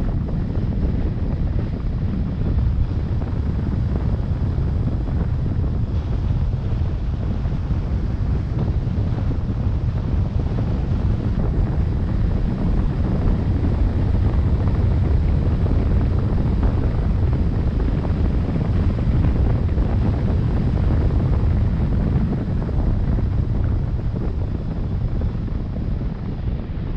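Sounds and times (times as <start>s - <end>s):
low rumble: 0.0s - 26.9s
wind buffeting microphone: 0.0s - 26.9s.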